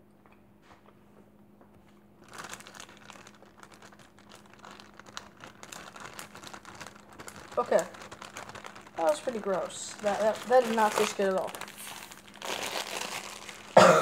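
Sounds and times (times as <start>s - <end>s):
candy wrapper crinkling: 2.2s - 14.0s.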